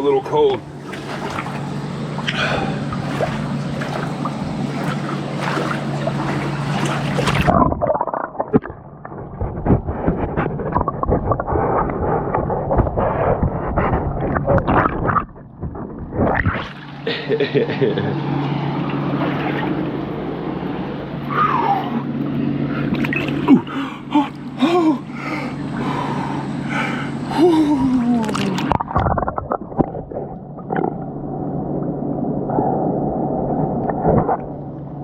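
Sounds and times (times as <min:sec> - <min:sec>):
steady low hum: 0:00.0 - 0:35.0
water splashing and sloshing: 0:00.0 - 0:35.0.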